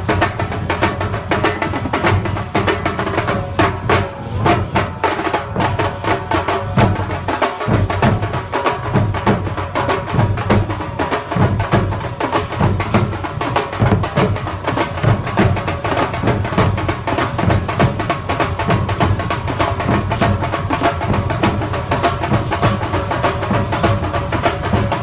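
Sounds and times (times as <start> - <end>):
fast percussion ensemble drumming: 0.0 - 25.0.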